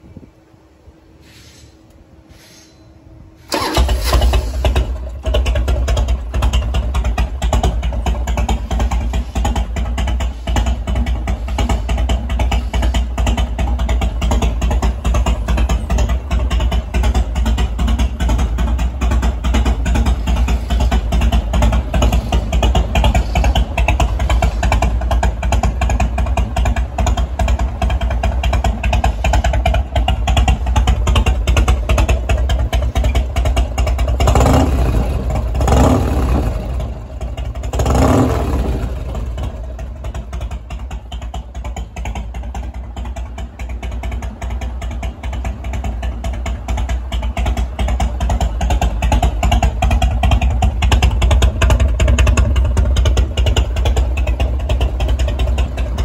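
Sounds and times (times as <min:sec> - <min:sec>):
motorcycle engine idling and revving: 0:03.1 - 0:56.0.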